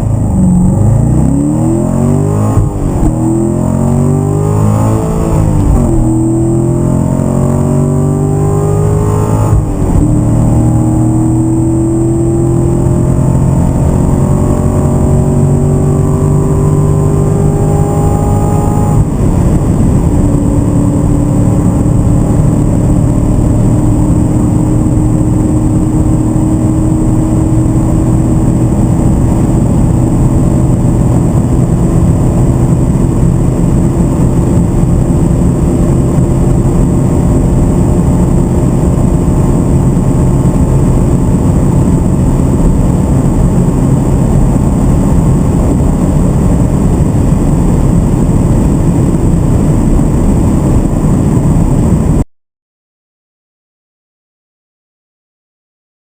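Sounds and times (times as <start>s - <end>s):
car engine accelerating hard: 0.0s - 52.2s
wind noise: 0.0s - 52.2s.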